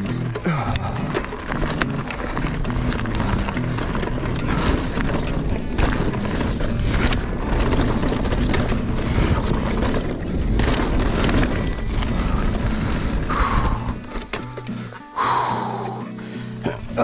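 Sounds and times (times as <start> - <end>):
wind buffeting microphone: 0.0 - 14.4
bike frame and chain clattering: 0.0 - 15.0
bike tyres on rock and dirt: 0.0 - 17.0.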